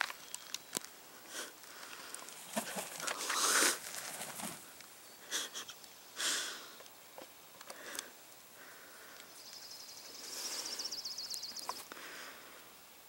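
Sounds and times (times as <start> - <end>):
breathy rush of noise: 1.0 - 7.1, 7.7 - 11.2, 11.8 - 13.0.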